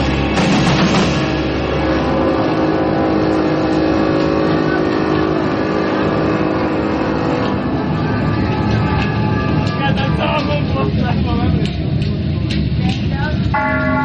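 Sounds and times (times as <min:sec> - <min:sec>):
band playing droning tones: 0:00.0 - 0:12.4, 0:13.4 - 0:14.0.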